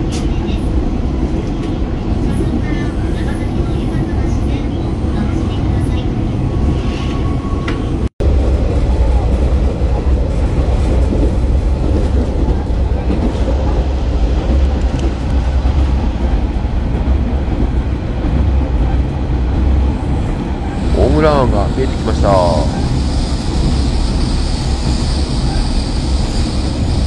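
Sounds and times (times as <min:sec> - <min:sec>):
railcar rumble inside train: 0:00.0 - 0:27.0.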